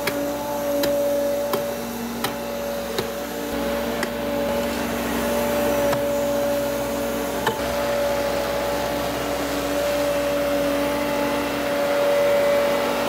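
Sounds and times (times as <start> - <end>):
excavator engine whine: 0.0 - 13.0.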